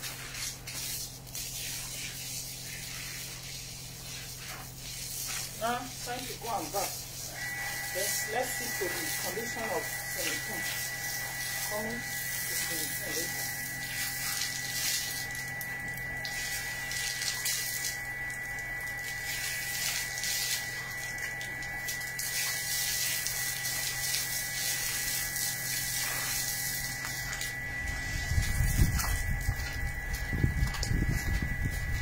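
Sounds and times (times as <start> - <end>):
water from hose splashing on concrete: 0.0 - 32.0
steady high tone: 6.4 - 32.0.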